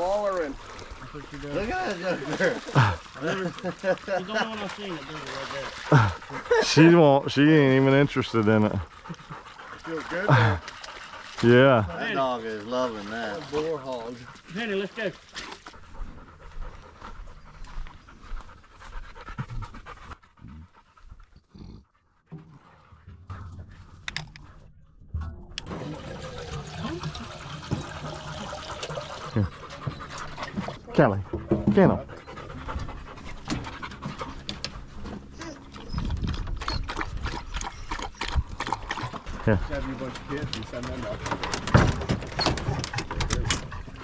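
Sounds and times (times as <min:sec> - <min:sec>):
dog panting: 0:00.1 - 0:24.7, 0:25.6 - 0:44.0.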